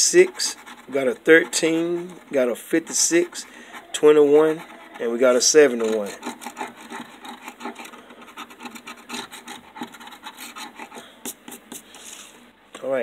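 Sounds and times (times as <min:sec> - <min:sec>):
scraper scratching lottery ticket: 0:00.0 - 0:12.3.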